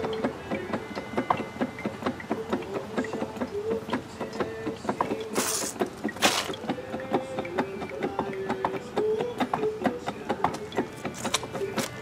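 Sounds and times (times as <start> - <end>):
hydraulic pump clicking and squeaking: 0.0 - 12.0.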